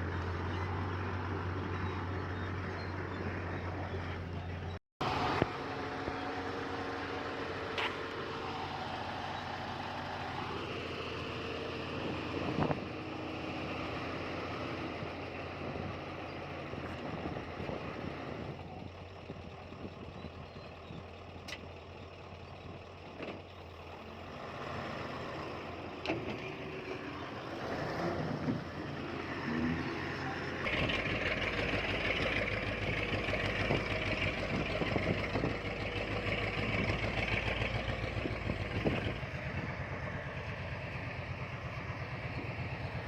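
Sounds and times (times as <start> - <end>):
heavy diesel machinery running: 0.0 - 43.0.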